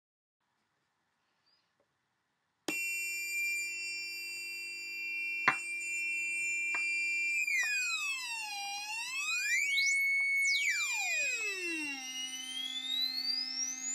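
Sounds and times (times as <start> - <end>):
high-pitched electronic tone: 2.7 - 13.9.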